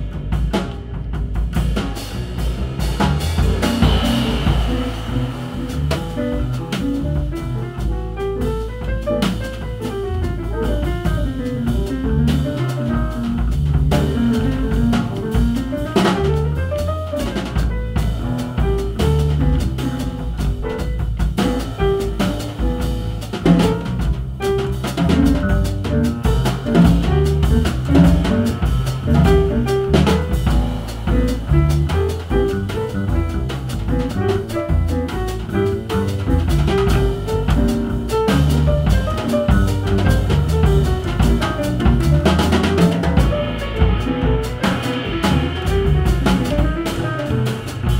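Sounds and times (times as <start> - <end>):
busy drumming: 0.0 - 47.9
double bass: 0.0 - 47.9
piano: 0.0 - 47.9.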